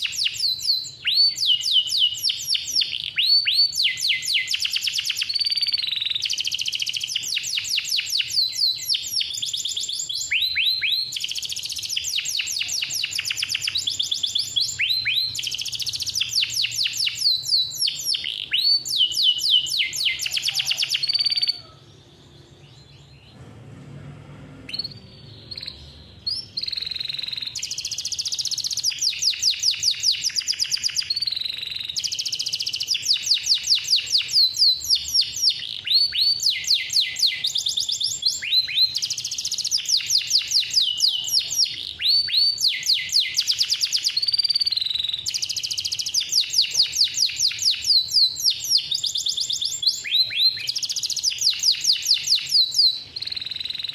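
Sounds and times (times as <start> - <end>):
canary singing trills: 0.0 - 23.4, 24.7 - 53.9.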